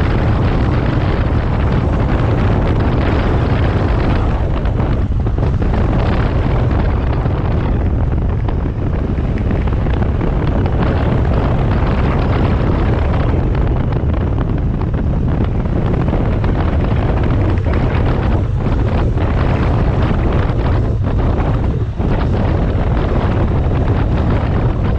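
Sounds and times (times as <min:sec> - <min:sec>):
motorcycle engine rumble: 0:00.0 - 0:24.9
wind buffeting microphone: 0:00.0 - 0:24.9.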